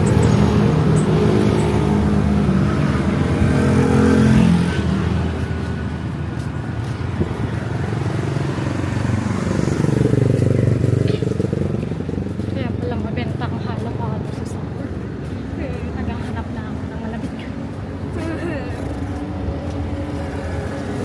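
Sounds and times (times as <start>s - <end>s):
steady traffic noise: 0.0s - 21.0s
vehicle engines passing close: 0.0s - 21.0s.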